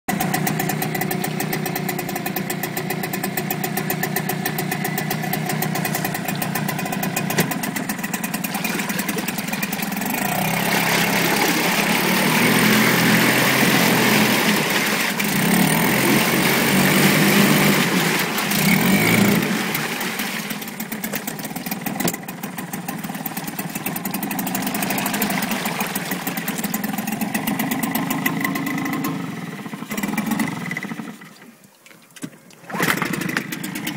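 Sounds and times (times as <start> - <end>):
outboard motor idling and revving: 0.0 - 31.6, 32.5 - 33.9.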